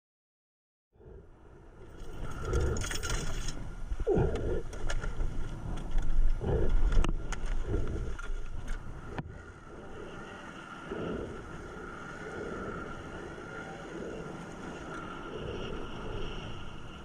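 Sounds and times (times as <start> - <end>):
wind rumbling on microphone: 1.0 - 17.0.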